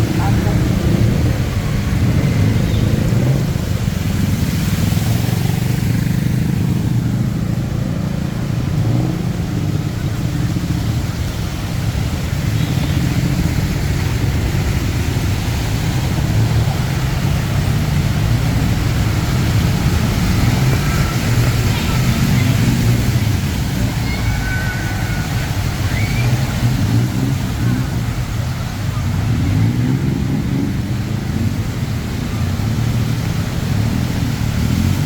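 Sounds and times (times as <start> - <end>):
car and motorcycle engines: 0.0 - 35.0
city road traffic rumble: 0.0 - 35.0.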